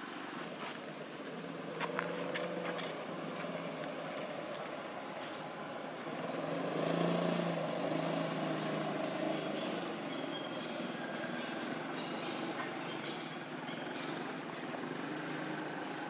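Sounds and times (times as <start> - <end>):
outdoor background noise: 0.0 - 16.0
vehicle engine hum: 0.0 - 16.0.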